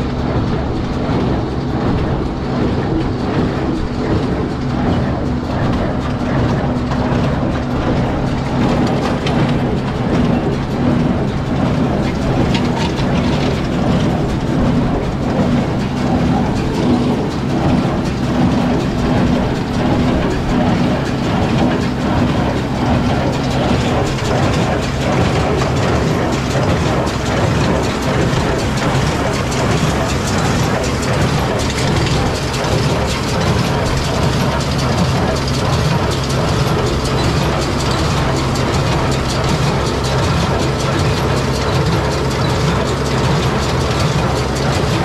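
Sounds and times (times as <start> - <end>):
baler mechanical clatter: 0.0 - 45.0.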